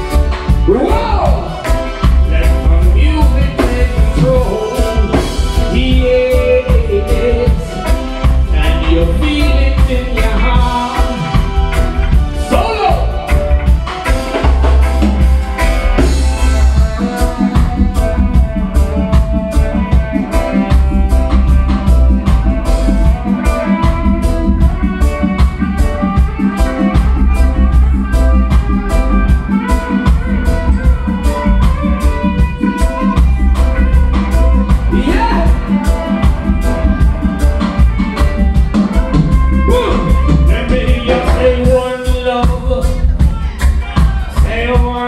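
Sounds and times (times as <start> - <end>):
bass guitar: 0.0 - 45.0
drum kit steady beat: 0.0 - 45.0
electric guitar: 0.0 - 45.0.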